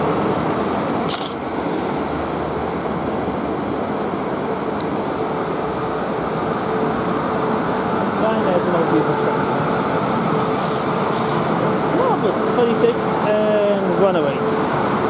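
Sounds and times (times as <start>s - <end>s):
electric train running on track: 0.0s - 15.0s.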